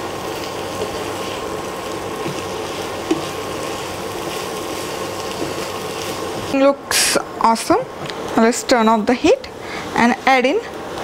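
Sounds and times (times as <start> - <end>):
faint sizzle: 0.0 - 11.0
steady background hum: 0.0 - 11.0.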